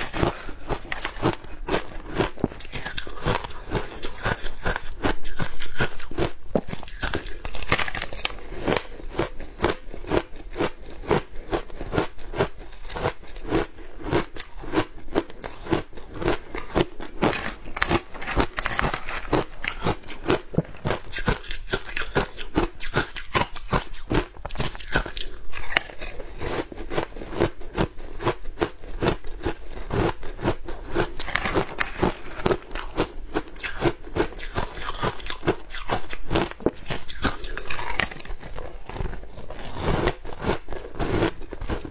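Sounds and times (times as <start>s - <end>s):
shaved ice crunching when chewed: 0.0s - 41.9s.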